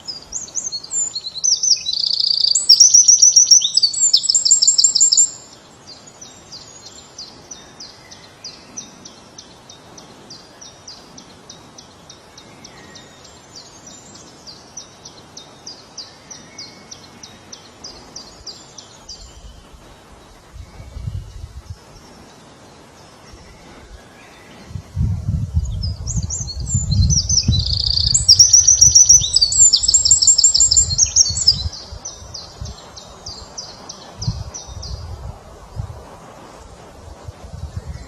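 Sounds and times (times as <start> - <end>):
songbird singing with trills: 0.0 - 35.3.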